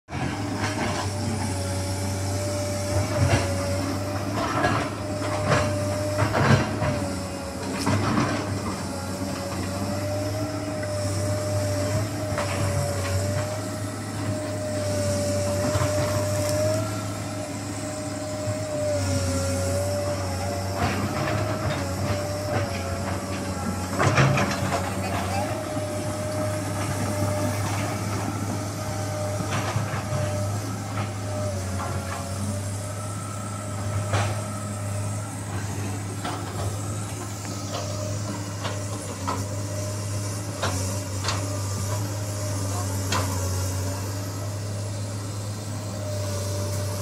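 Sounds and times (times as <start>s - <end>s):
excavator diesel engine: 0.1s - 47.0s
high mechanical whine: 0.2s - 47.0s.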